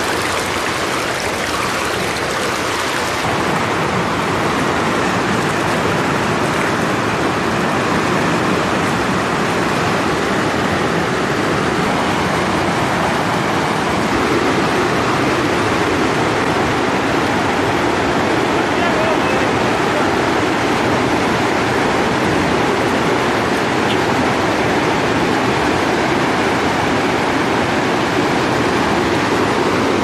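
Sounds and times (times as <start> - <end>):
river rapids rushing over rocks: 0.0 - 30.0.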